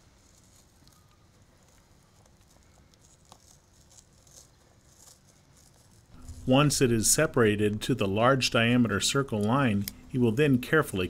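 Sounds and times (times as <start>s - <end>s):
foam backing crackling and tearing: 0.0s - 11.0s.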